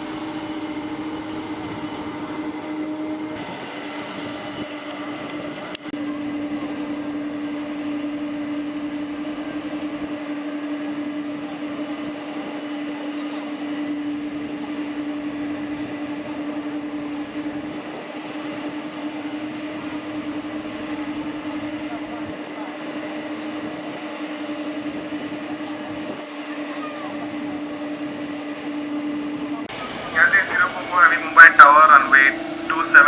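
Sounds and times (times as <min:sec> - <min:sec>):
jet airliner engines whining: 0:00.0 - 0:33.0.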